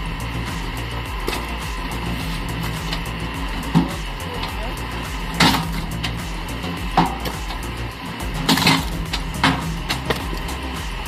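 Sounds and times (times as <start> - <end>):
background music: 0.0 - 11.0
sharp percussive hits: 0.0 - 11.0.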